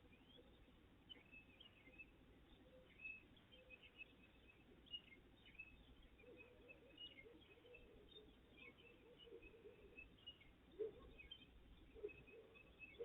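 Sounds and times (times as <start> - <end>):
low background hiss: 0.0 - 13.0
small birds chirping: 0.0 - 13.0.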